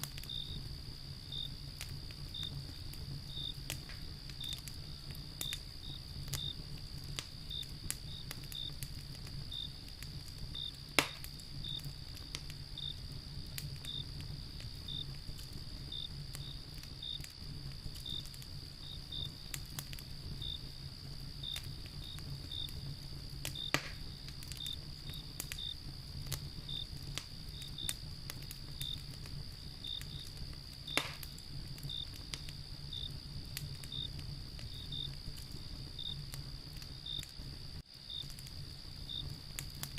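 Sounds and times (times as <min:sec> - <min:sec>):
crickets chirping: 0:00.0 - 0:39.9
high insect trill: 0:00.0 - 0:39.9
sharp fire pops: 0:00.0 - 0:39.9
wood fire crackling: 0:00.0 - 0:39.9.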